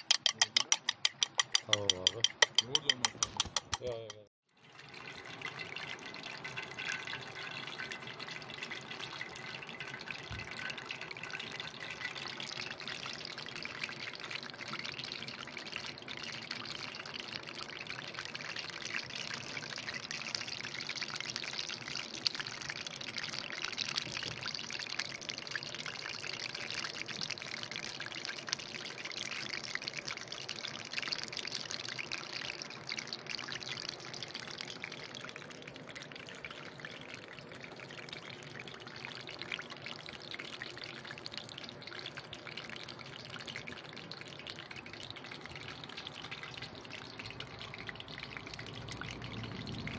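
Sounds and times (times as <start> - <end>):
pastry frying in hot oil: 0.0 - 49.9.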